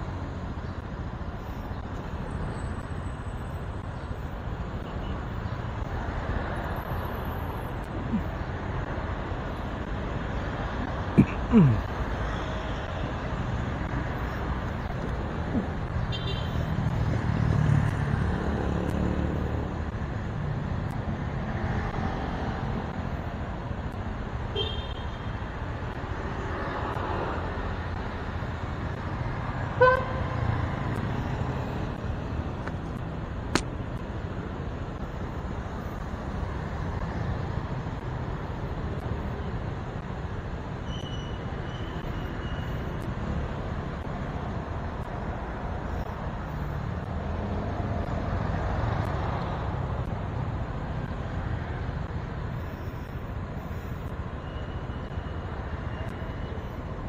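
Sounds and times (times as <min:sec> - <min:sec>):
street traffic rumble: 0:00.0 - 0:57.0.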